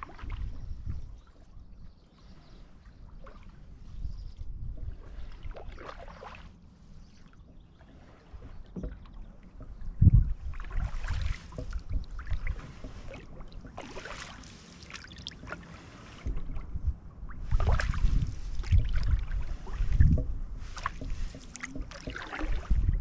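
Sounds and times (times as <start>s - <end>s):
paddle splashing through water: 0.0s - 1.6s, 2.2s - 23.0s.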